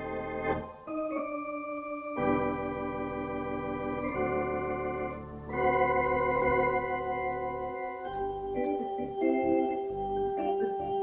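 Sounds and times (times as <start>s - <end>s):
organ chords: 0.0s - 11.0s.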